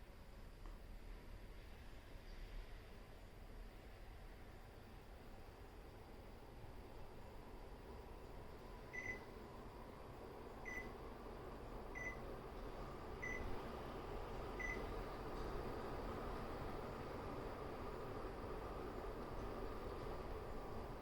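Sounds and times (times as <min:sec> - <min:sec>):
fan air rushing: 0:00.0 - 0:21.0.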